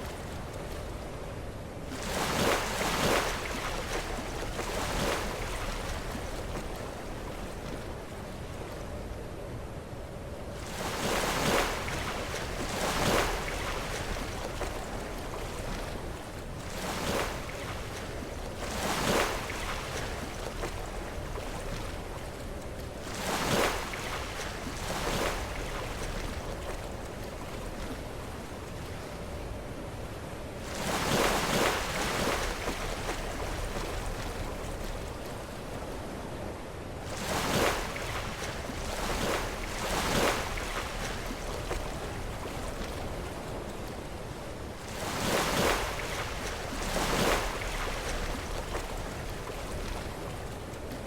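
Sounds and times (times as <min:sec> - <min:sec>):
low rumble of surf: 0:00.0 - 0:51.0.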